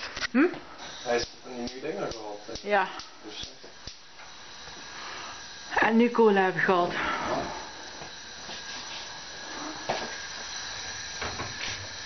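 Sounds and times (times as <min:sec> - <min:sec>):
pan hissing on gas burner: 0:00.0 - 0:12.0.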